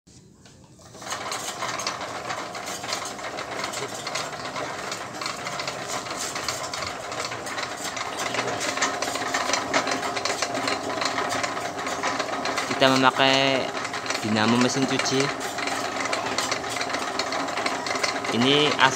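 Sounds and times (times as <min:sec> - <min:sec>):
rattling clicks: 0:00.4 - 0:18.9
washing machine motor running: 0:00.7 - 0:18.9.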